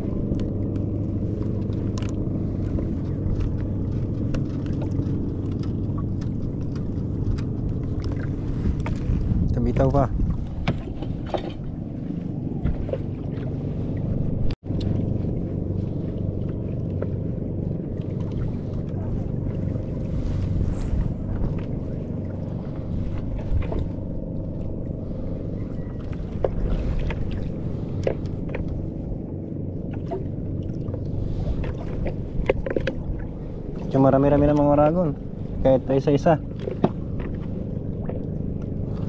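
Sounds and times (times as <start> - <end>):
boat engine low rumble: 0.0 - 39.0
faint hum: 0.0 - 39.0.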